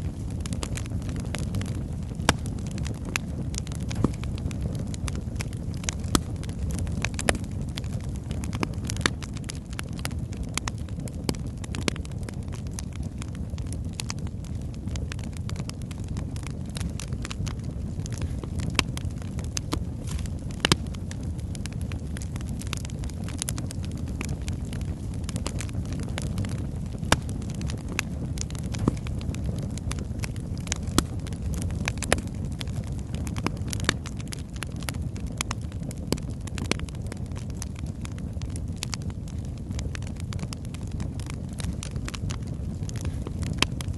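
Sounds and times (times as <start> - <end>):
logs crackling and popping: 0.0 - 43.9
low rumble of flame: 0.0 - 43.9.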